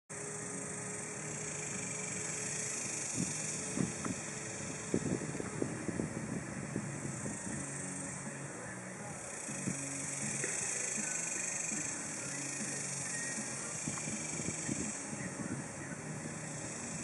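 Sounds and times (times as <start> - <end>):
low hum and hiss: 0.1 - 17.0.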